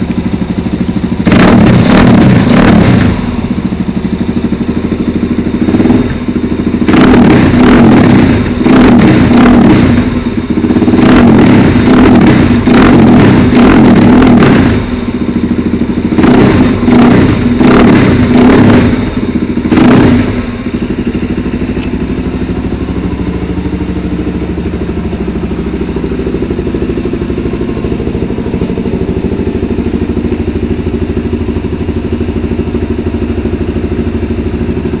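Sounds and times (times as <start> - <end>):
motorcycle engine revving and idling: 0.0 - 35.0.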